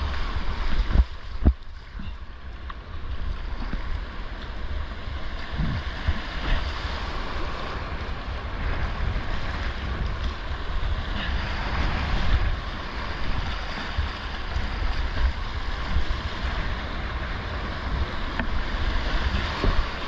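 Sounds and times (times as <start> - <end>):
whitewater rushing and splashing: 0.0 - 20.0
wind buffeting microphone: 0.0 - 20.0.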